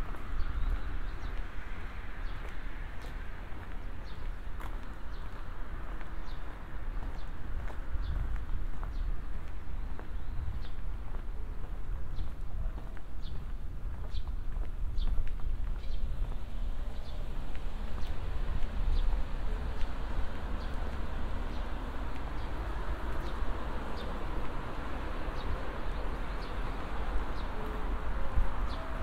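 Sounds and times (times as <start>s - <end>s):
city noise: 0.0s - 29.0s.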